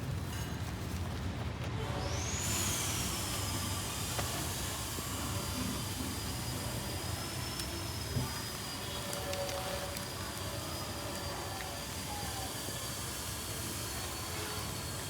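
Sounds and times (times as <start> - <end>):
thin high whine: 2.5 - 15.0
steady hiss: 2.6 - 15.0.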